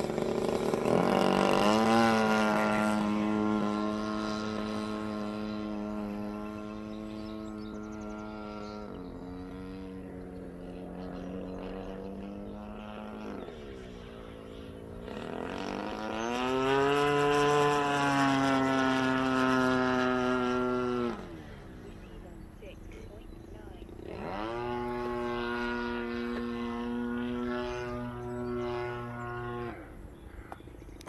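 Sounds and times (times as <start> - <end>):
model airplane engine buzzing: 0.0 - 31.0.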